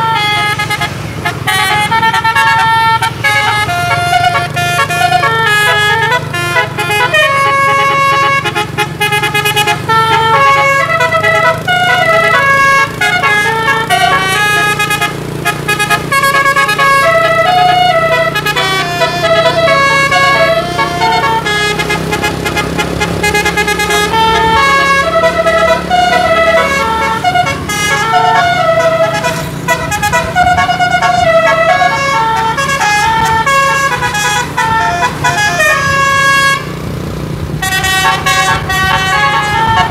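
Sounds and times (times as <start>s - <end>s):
musical air horn melody: 0.0s - 36.8s, 37.6s - 39.9s
bus engine hum: 0.0s - 39.9s.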